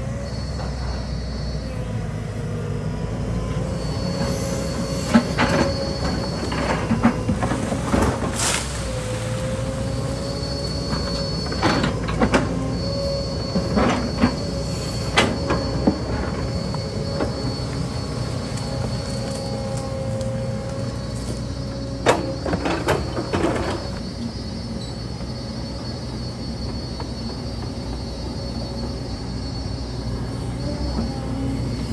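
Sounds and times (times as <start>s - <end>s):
diesel engine running: 0.0s - 31.9s
hydraulic whine: 0.0s - 31.9s.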